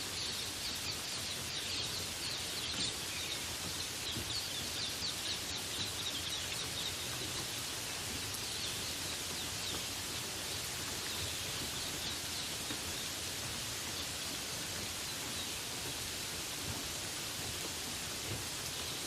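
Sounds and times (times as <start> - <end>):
small birds chirping: 0.0 - 16.7
rain falling: 0.0 - 19.0.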